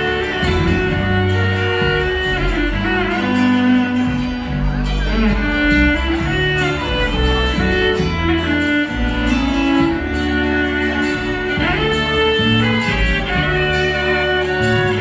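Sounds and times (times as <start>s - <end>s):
bowed fiddle melody: 0.0s - 15.0s
strummed acoustic guitars: 0.0s - 15.0s
upright bass: 0.0s - 15.0s.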